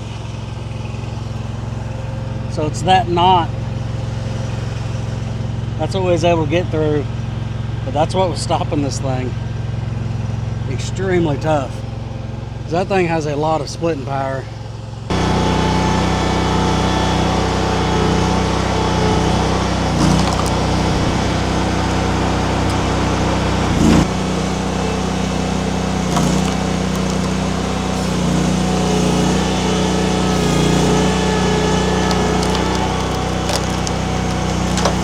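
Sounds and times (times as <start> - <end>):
engine running at working throttle: 0.0 - 35.0.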